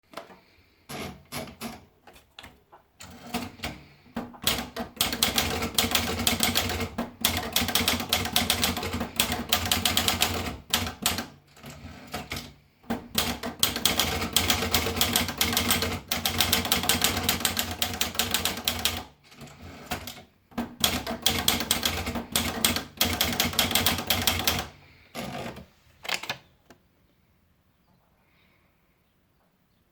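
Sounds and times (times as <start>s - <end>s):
manual typewriter keystrokes: 0.1s - 26.4s.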